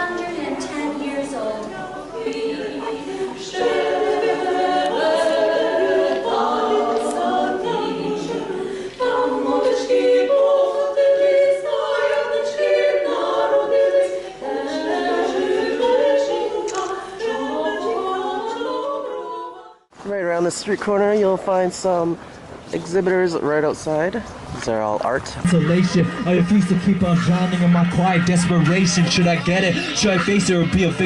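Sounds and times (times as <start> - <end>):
a cappella choir singing: 0.0 - 19.9, 25.4 - 31.0.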